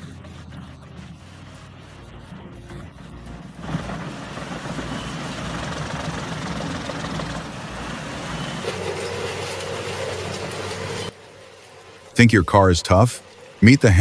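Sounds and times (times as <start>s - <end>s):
wood-processing machine running: 0.0s - 14.0s.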